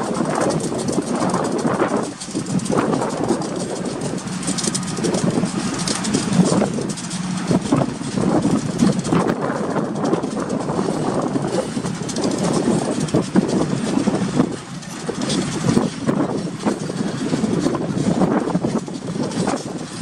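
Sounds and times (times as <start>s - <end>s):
locomotives passing: 0.0s - 20.0s
steel wheels clattering on rails: 0.0s - 20.0s.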